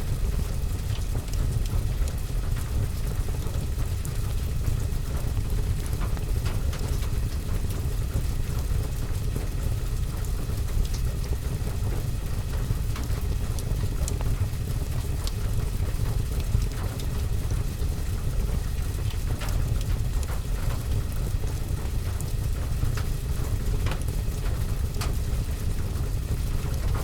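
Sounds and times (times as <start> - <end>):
rain on window and roof: 0.0 - 27.0
fireplace fire crackling: 0.1 - 27.0.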